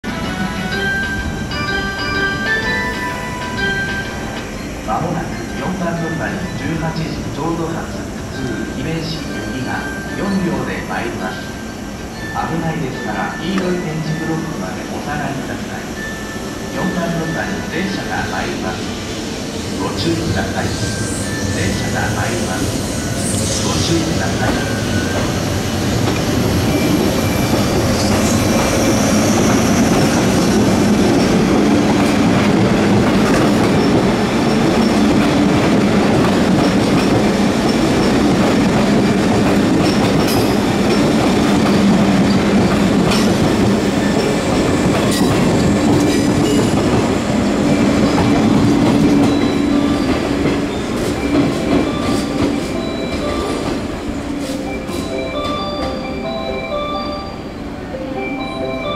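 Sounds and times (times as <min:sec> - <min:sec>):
electric train running: 0:00.1 - 0:57.2.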